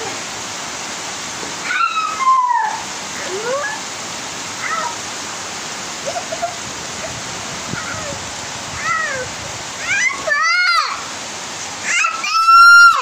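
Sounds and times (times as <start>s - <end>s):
heavy rain on roofs: 0.0s - 13.0s.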